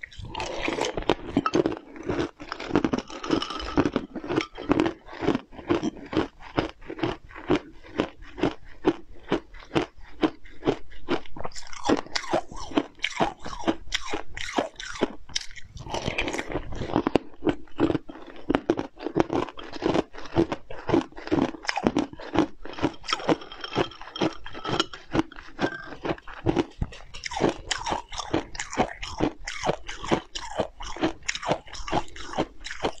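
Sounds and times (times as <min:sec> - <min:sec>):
chewing and biting food: 0:00.0 - 0:33.0.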